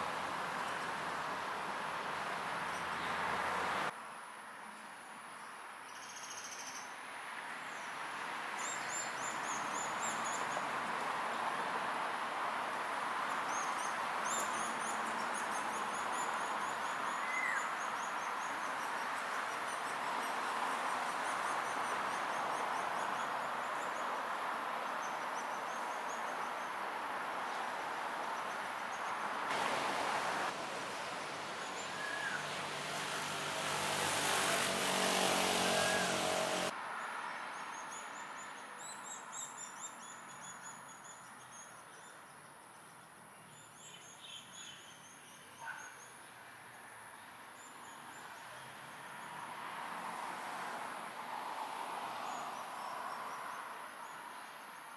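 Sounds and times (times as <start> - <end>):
background traffic noise: 0.0 - 54.9.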